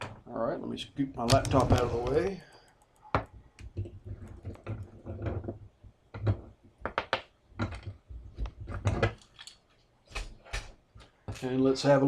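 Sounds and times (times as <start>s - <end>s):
objects clicking on hard desk: 1.3s - 11.5s.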